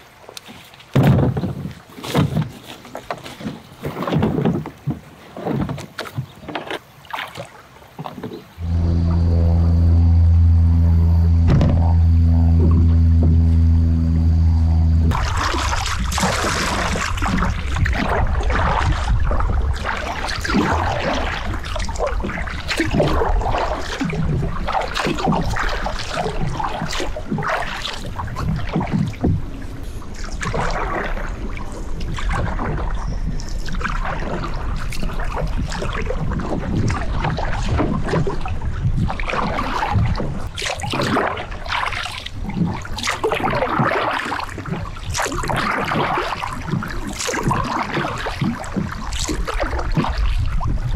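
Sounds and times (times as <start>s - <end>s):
paddle strokes swishing water: 0.0s - 50.9s
wind rumble on microphone: 8.4s - 41.7s, 42.3s - 50.9s.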